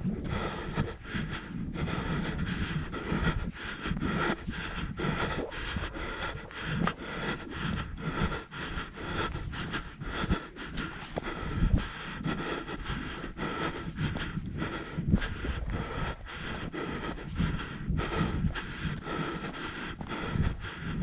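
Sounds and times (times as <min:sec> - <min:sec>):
person breathing hard: 0:00.0 - 0:21.0
wind buffeting microphone: 0:00.0 - 0:21.0.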